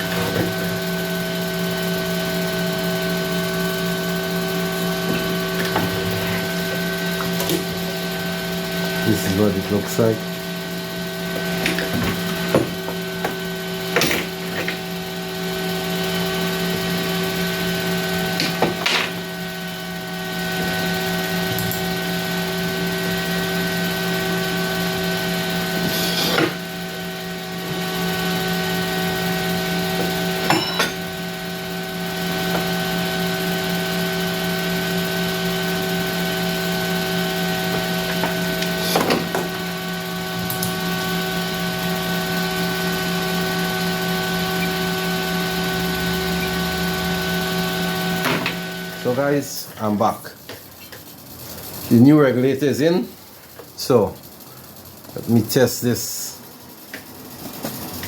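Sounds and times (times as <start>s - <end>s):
extractor fan humming: 0.0s - 58.0s.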